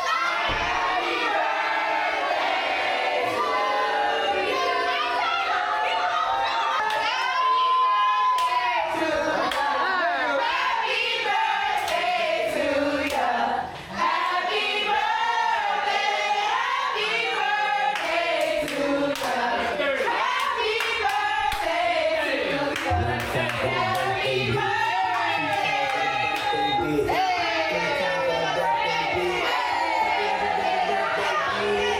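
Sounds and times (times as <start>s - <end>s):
group of people singing: 0.0s - 6.3s, 8.0s - 31.9s.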